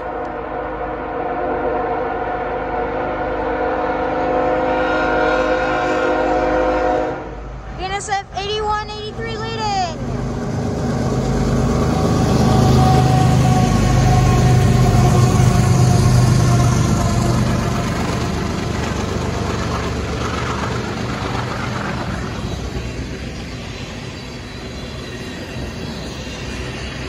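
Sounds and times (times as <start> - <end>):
locomotive engine drone: 0.0 - 27.0
train wheel and rail noise: 0.0 - 27.0.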